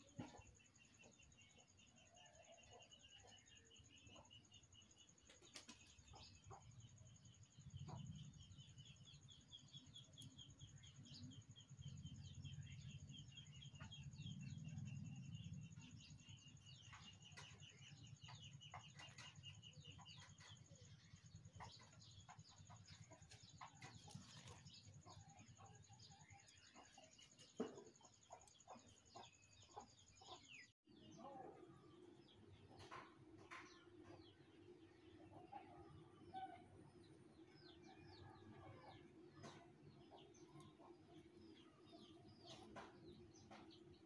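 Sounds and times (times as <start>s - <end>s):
faint high-pitched chirping: 0.0s - 44.0s.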